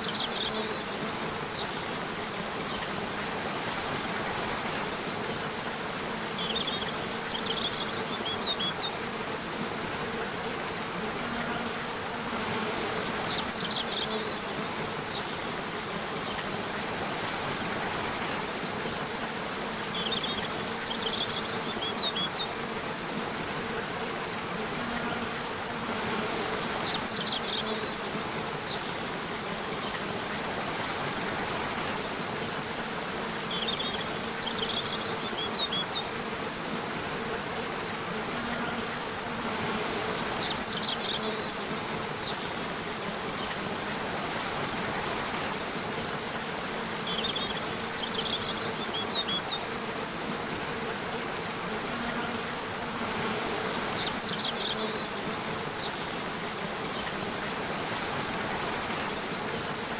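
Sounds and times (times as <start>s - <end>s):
buzzing insects: 0.0s - 59.9s
flowing water rushing: 0.0s - 59.9s.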